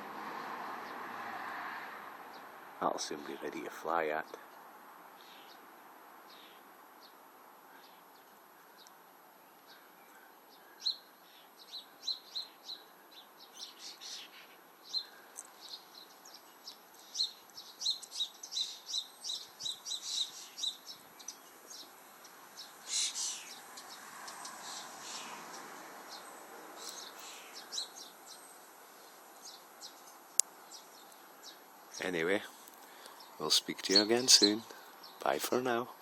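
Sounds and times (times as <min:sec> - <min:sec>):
sparrows chirping: 0:02.2 - 0:36.0.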